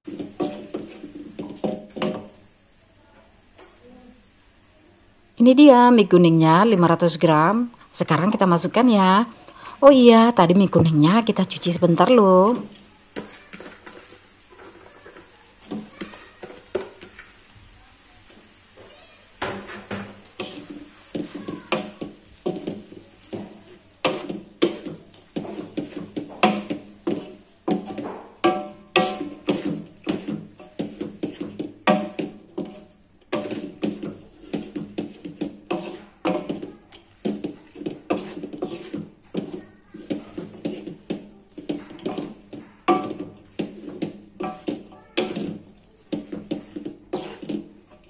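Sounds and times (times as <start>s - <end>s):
wooden spatula scraping metal wok: 0.0s - 2.4s, 7.4s - 48.0s.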